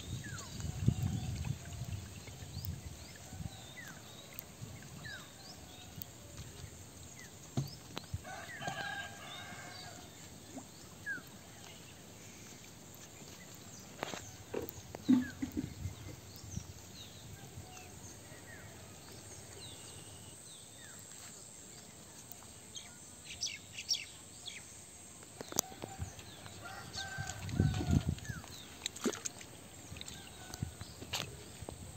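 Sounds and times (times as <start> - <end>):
water splashes: 0.0 - 20.1, 25.6 - 31.9.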